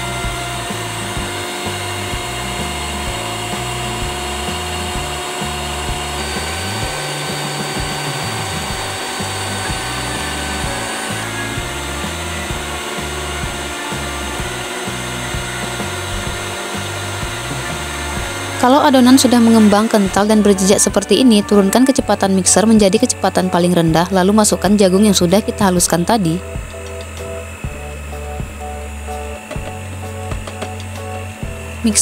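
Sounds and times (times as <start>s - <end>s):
background music: 0.0s - 32.0s
electric stand mixer whipping: 0.0s - 32.0s.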